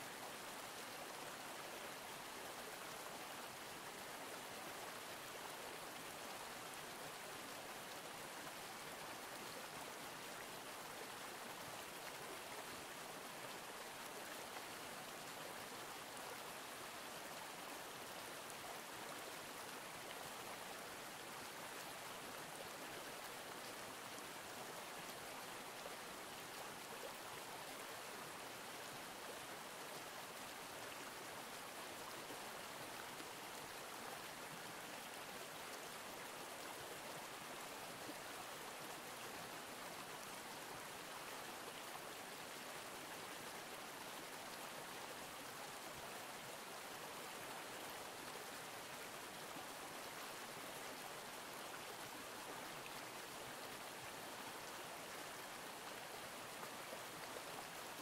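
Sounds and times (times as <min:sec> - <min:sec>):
stream running water: 0:00.0 - 0:58.0.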